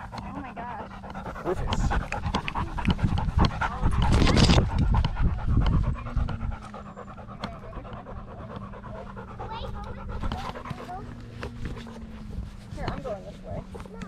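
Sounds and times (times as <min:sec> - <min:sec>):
dog panting rapidly: 0:00.0 - 0:14.0.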